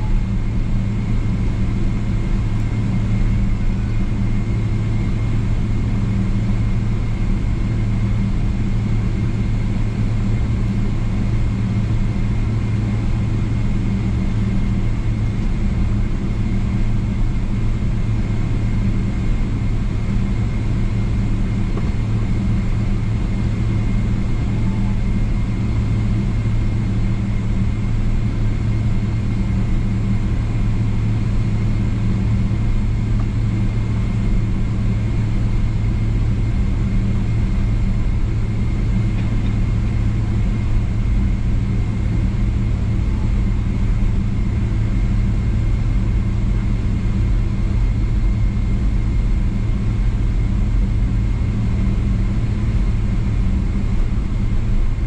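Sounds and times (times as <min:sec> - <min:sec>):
faint high turbofan whine: 0:00.0 - 0:55.0
low cabin rumble: 0:00.0 - 0:55.0.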